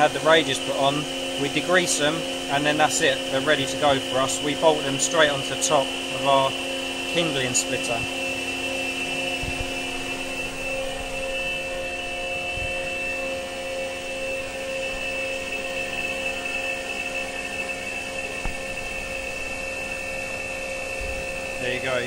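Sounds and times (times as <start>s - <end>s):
milling machine whining: 0.0s - 22.0s.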